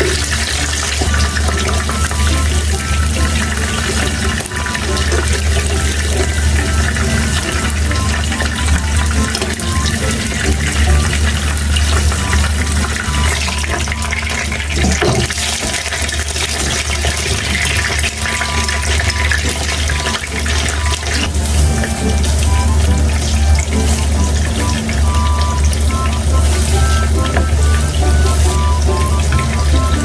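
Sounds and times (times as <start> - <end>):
faint musical tune: 0.0 - 30.0
water running steadily: 0.0 - 30.0.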